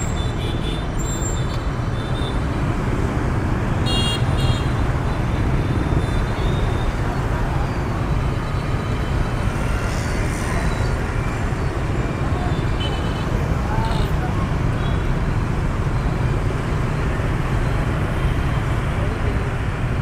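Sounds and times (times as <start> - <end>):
rumble of motorbike traffic: 0.0 - 20.0.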